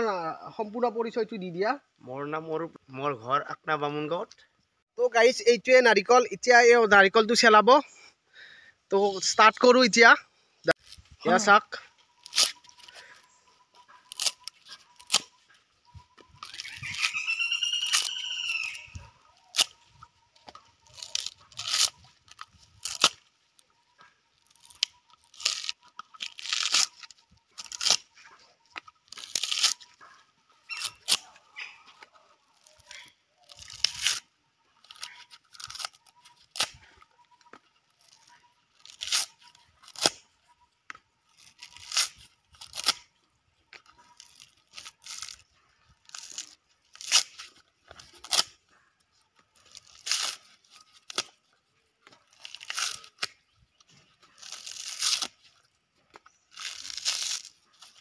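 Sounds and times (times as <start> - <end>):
coconut husk ripping: 10.7 - 58.0.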